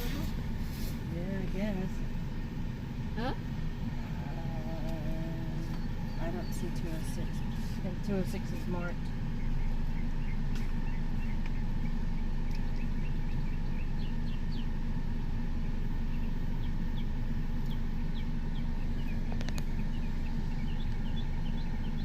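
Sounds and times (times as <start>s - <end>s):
car driving slowly: 0.0s - 22.0s.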